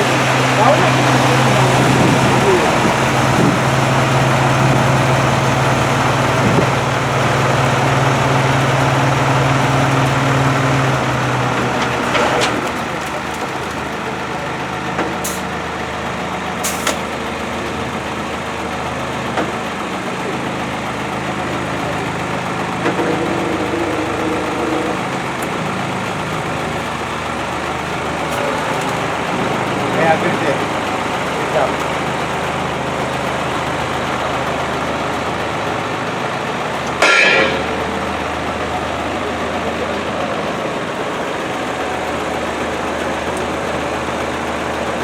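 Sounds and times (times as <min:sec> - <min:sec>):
diesel truck engine running: 0:00.0 - 0:45.0.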